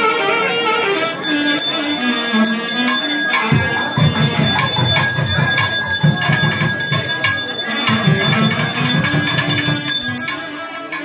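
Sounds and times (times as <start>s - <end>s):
low melody: 0.0s - 11.0s
held high drone tone: 0.7s - 11.0s
jingling percussion: 0.9s - 11.0s
drum beats: 1.1s - 11.0s.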